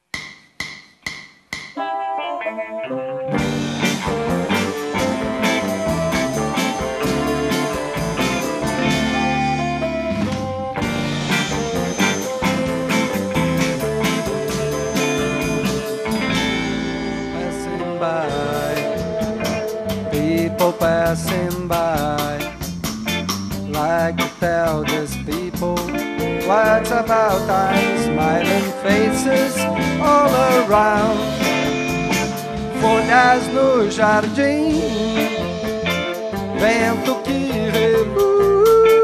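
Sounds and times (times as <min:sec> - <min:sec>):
live band with electric guitars: 0:01.8 - 0:39.0.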